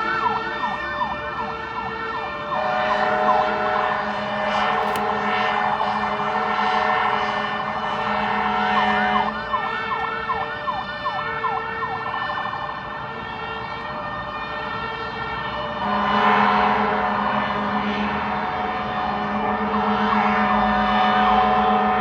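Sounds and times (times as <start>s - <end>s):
fire truck siren: 0.0s - 22.0s.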